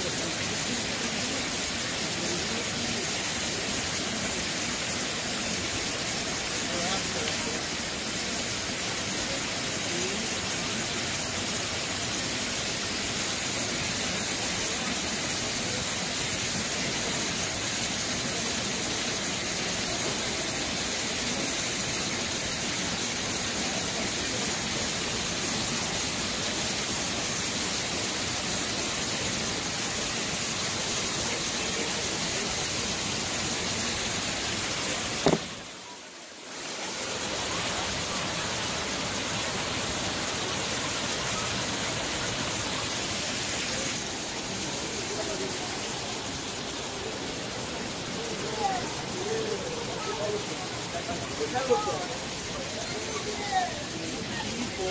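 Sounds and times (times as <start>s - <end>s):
waterfall pouring into pool: 0.0s - 54.9s.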